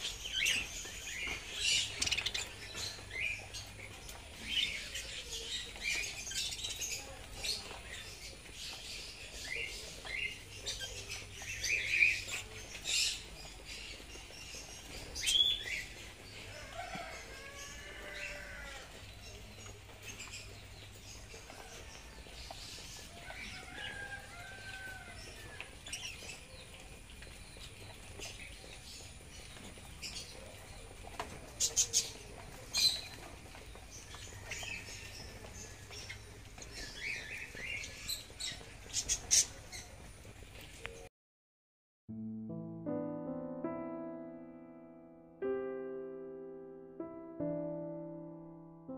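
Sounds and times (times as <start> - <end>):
budgerigars chirping and chattering: 0.0 - 41.0.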